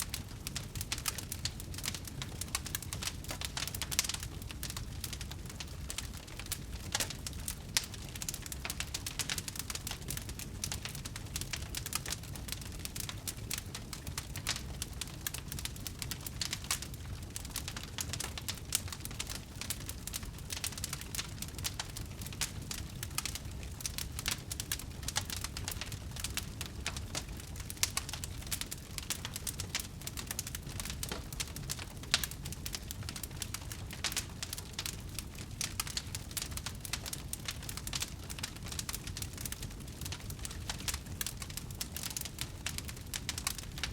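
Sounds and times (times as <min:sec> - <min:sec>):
bonfire crackling and popping: 0:00.0 - 0:43.9
low fire rumble: 0:00.0 - 0:43.9.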